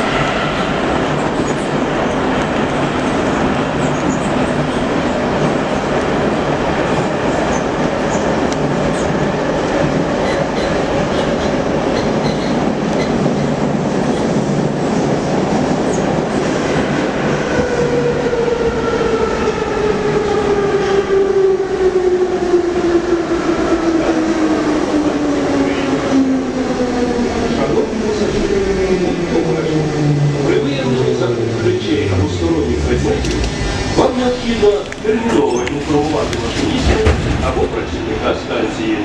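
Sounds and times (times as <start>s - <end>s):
falling train whine: 0.0s - 10.1s, 16.5s - 39.0s
train wheels rumbling on rails: 0.0s - 39.0s.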